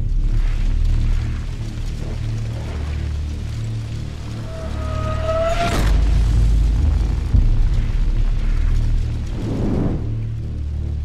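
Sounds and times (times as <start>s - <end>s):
deep booming rumble: 0.0s - 11.0s
music: 0.0s - 11.0s.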